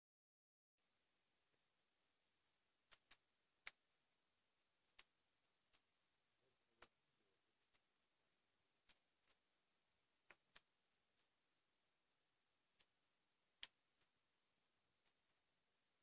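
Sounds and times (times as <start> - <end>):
background hiss: 0.8 - 16.0.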